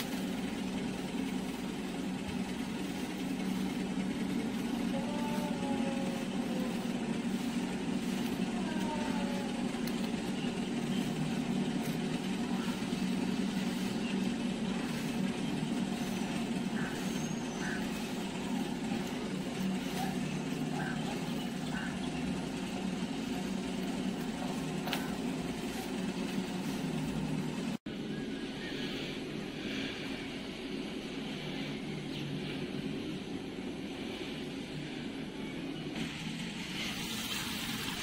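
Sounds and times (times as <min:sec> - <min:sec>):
low engine drone: 0:00.0 - 0:38.0.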